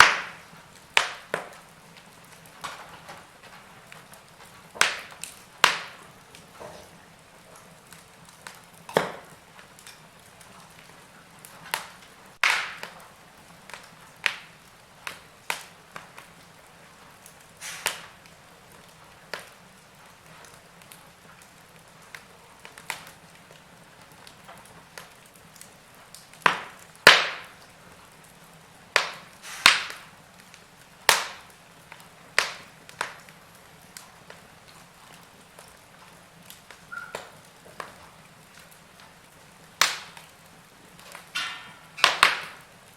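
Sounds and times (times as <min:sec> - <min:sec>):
faint steady hiss: 0:00.0 - 0:42.9
wood fire crackling: 0:00.0 - 0:42.9.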